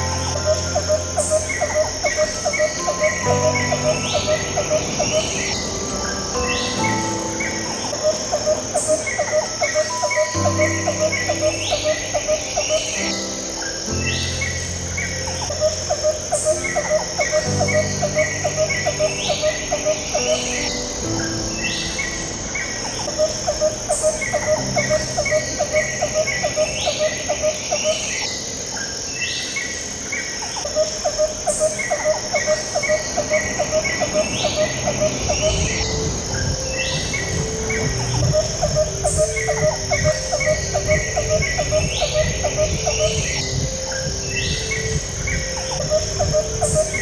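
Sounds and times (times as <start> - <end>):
ambient music low held notes: 0.0 - 29.3, 30.0 - 47.0
bird-like calls: 0.0 - 47.0
cricket-like chirping: 0.0 - 47.0.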